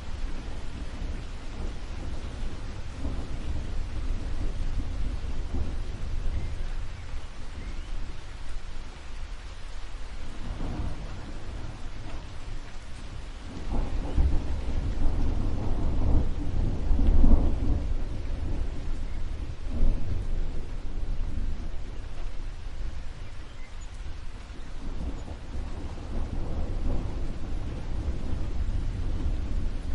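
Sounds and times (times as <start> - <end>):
steady rain: 0.0 - 29.9
thunder rumbling: 0.0 - 29.9.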